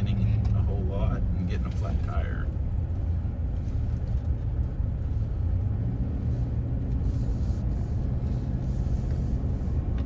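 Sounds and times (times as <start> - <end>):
car engine and tyres drone: 0.0 - 10.0.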